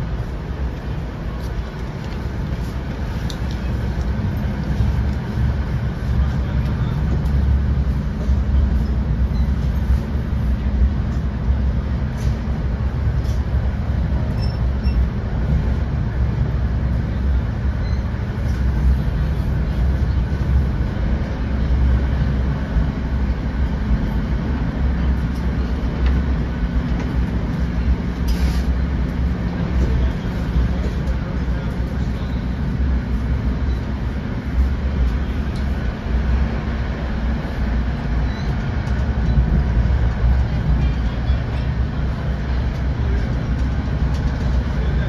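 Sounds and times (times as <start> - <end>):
wheels rumbling on rail: 0.0 - 45.0.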